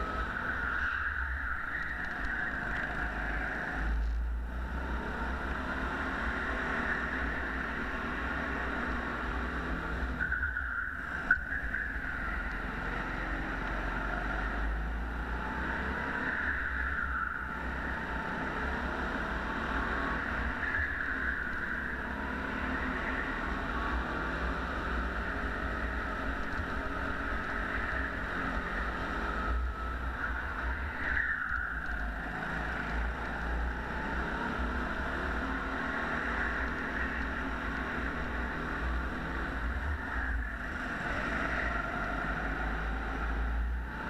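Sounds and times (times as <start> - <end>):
go-kart engine running: 0.0 - 44.0.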